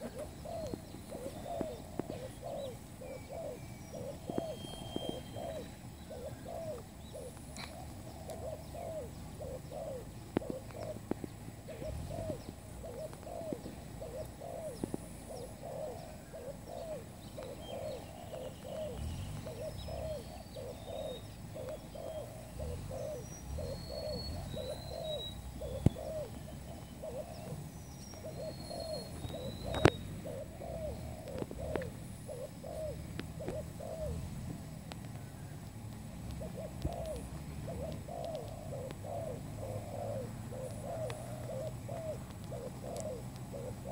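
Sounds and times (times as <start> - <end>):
doves cooing: 0.0 - 43.9
small birds chirping: 0.0 - 43.9.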